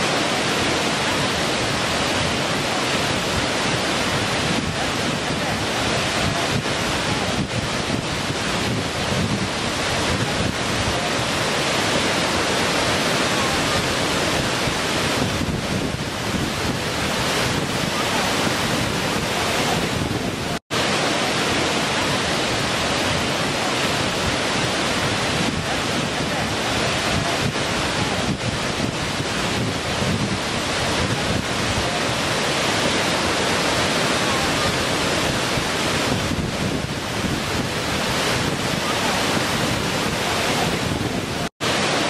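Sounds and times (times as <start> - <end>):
waterfall rushing over rocks: 0.0 - 42.0.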